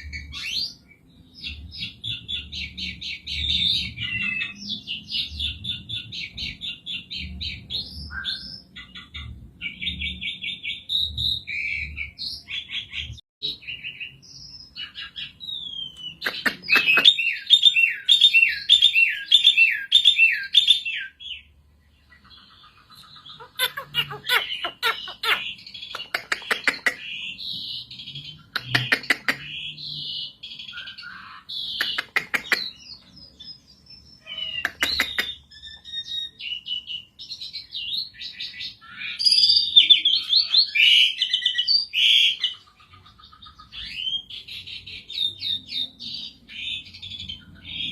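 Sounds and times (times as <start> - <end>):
bird singing varied song: 0.0 - 47.9.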